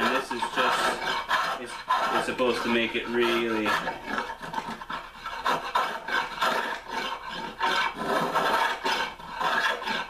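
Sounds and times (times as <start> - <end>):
spokeshave scraping wood: 0.0 - 10.0.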